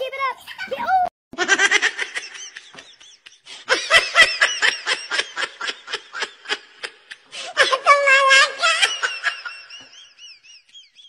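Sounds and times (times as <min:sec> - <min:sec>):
person laughing: 0:01.4 - 0:11.0.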